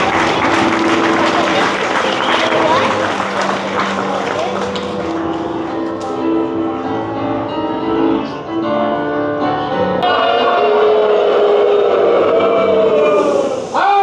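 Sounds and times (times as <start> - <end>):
piano music: 0.0 - 13.7.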